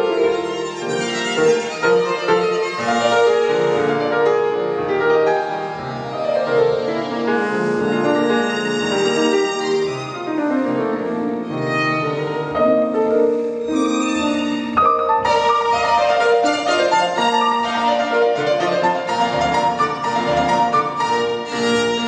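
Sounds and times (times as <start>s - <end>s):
bowed violin melody: 0.0s - 22.0s
piano chords: 0.0s - 22.0s.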